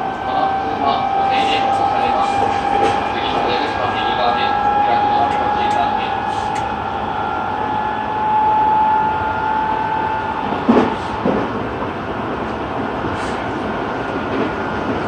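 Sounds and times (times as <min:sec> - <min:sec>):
steady whine: 0:00.0 - 0:12.6
subway car rumble: 0:00.0 - 0:15.0.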